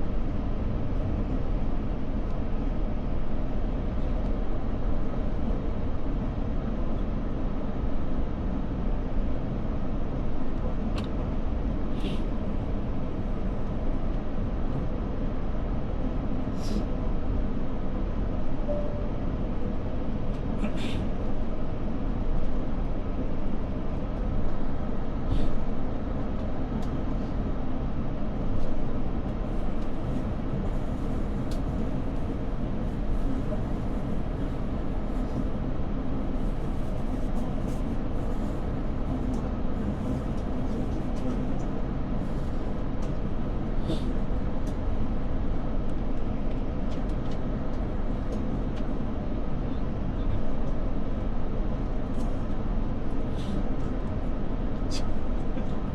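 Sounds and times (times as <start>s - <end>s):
jet cabin rumble: 0.0s - 55.9s.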